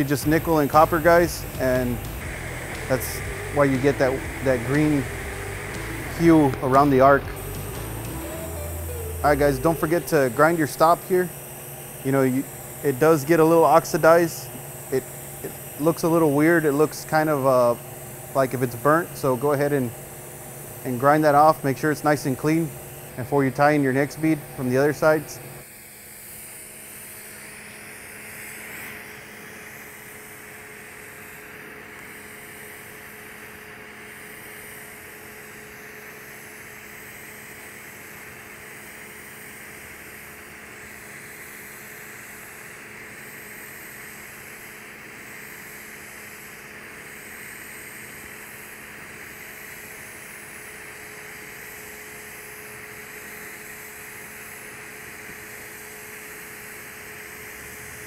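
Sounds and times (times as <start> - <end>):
welding arc hissing: 0.0 - 58.0.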